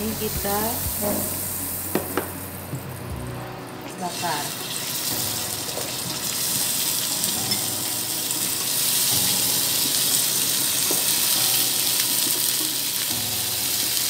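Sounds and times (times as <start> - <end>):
skewers sizzling on a grill pan: 0.0 - 3.1, 4.0 - 14.0.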